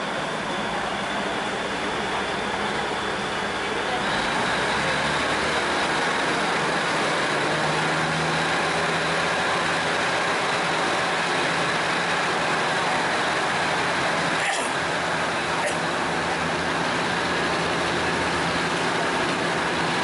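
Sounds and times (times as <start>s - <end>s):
large engine idling: 0.0s - 20.0s.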